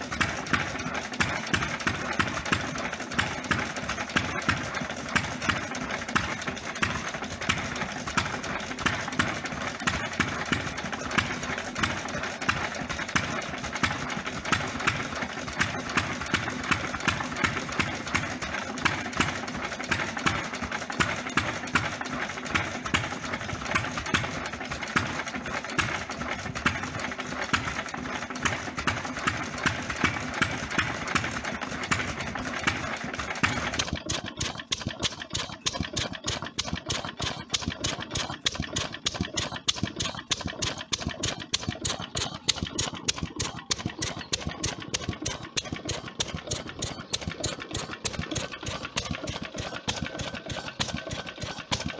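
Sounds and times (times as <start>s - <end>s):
stationary engine running: 0.0s - 51.9s.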